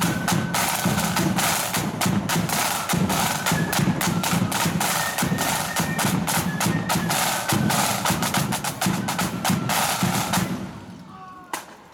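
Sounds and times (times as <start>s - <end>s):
snare drums playing: 0.0s - 10.9s.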